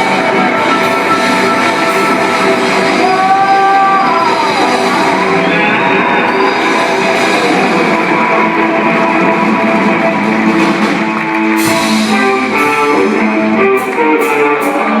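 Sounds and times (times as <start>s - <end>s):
electric guitar sustained notes: 0.0s - 15.0s
live band music: 0.0s - 15.0s.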